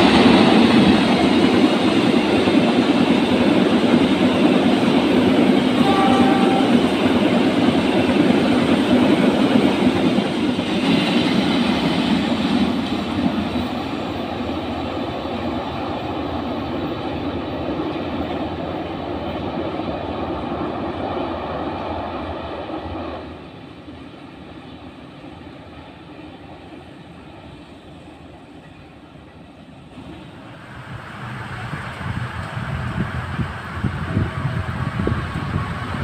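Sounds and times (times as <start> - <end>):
train coaches rolling on rails: 0.0 - 36.0.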